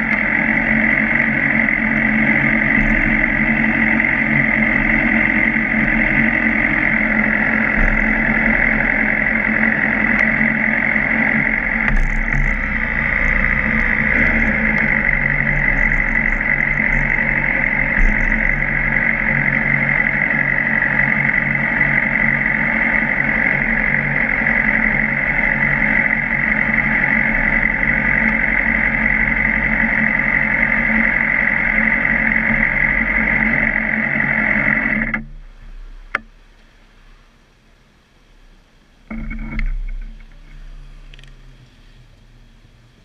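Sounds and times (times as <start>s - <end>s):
wind noise: 0.0s - 36.2s
motorcycle engine drone: 0.0s - 43.0s.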